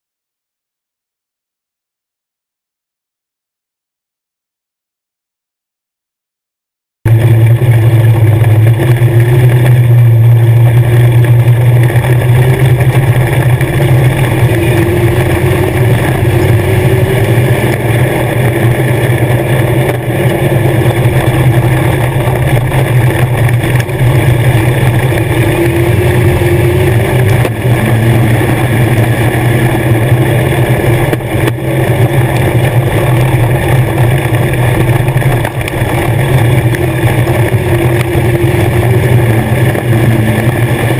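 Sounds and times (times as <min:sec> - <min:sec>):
motorcycle engine running loud: 0:07.1 - 0:40.9.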